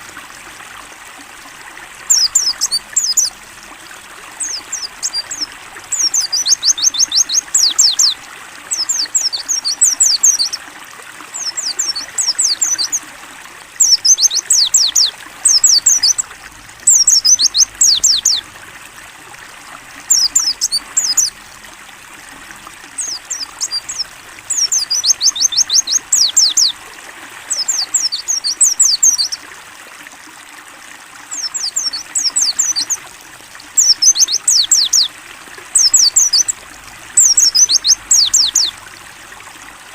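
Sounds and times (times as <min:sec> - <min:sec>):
running water trickle: 0:00.0 - 0:39.9.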